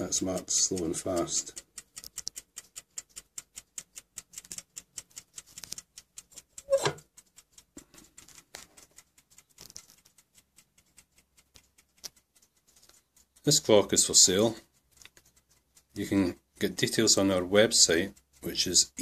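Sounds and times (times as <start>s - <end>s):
clock ticking quickly: 0.0s - 19.0s.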